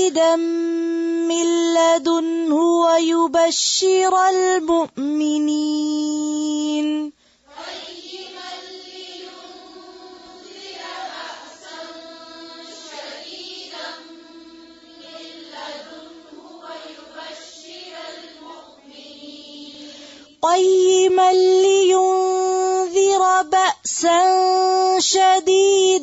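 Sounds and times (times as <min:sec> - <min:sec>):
person chanting verse: 0:00.0 - 0:26.0.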